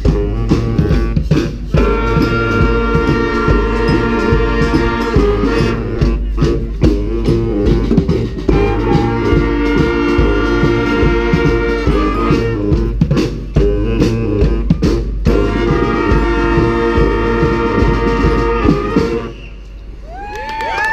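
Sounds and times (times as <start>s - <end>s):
brass band playing rock tune: 0.0s - 19.4s.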